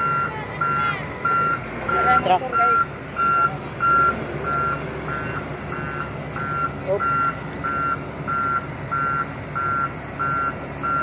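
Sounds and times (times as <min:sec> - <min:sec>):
diesel engine running: 0:00.0 - 0:11.0
reversing alarm beeping: 0:00.0 - 0:11.0.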